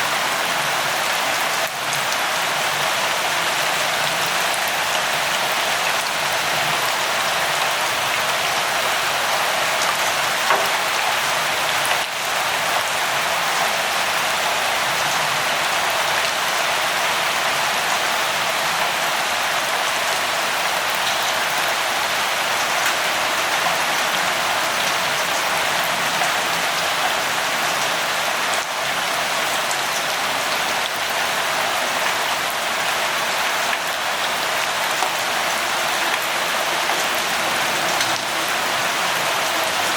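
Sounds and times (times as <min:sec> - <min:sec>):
raindrops pattering: 0:00.1 - 0:39.9.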